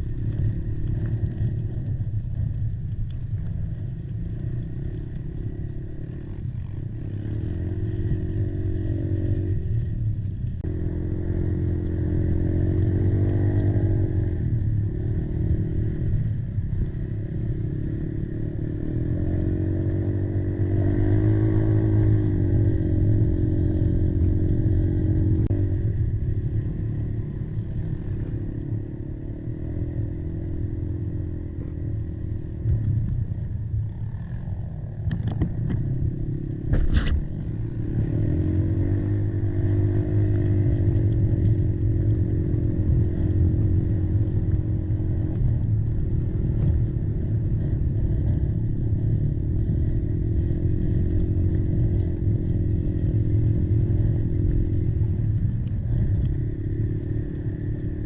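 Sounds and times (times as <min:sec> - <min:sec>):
low riding rumble: 0:00.0 - 0:58.0
quad bike engine running: 0:00.0 - 0:58.0.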